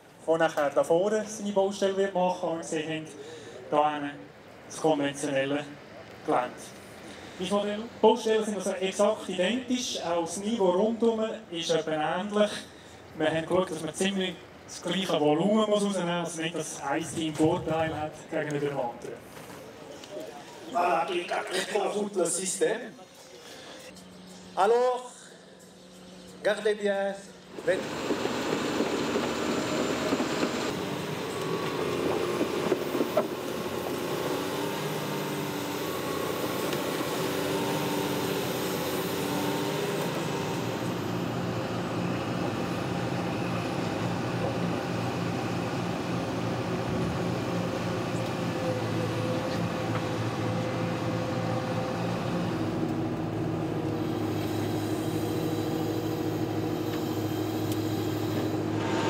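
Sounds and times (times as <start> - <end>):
excavator engine and hydraulics: 1.8 - 59.0.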